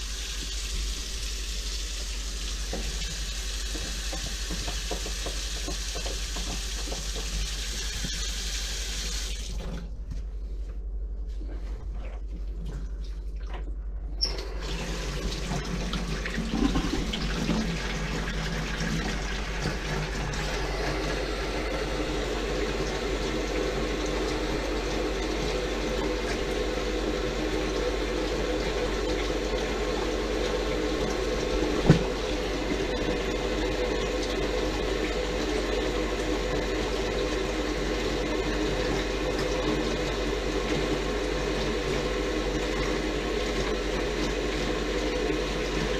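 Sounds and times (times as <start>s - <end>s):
tap water running into sink: 0.0s - 9.8s, 14.2s - 45.9s.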